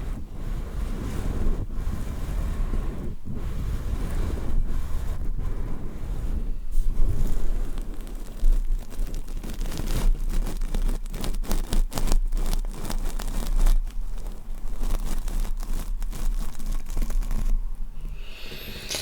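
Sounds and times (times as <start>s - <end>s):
crackling clicks and rustles: 0.0s - 18.2s.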